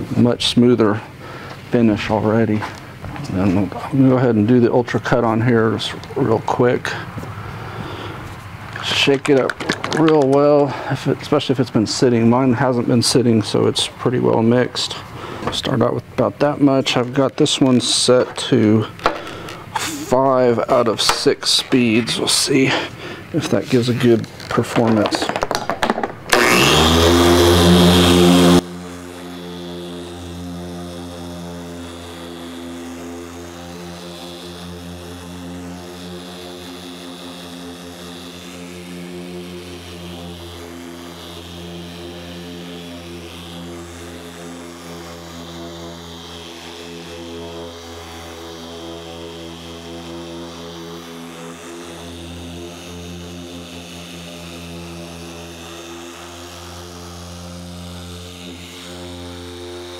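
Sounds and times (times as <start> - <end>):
electric polisher motor hum: 6.8 - 11.3, 12.2 - 59.9.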